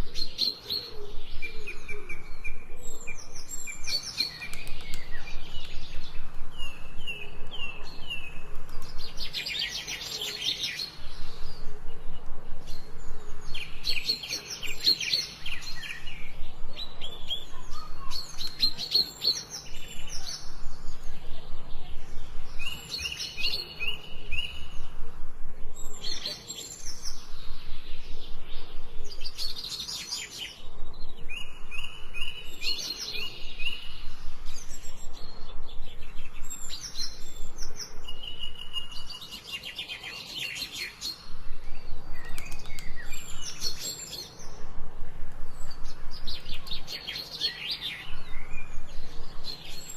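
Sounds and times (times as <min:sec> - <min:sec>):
birds singing and chirping: 0:00.0 - 0:49.9.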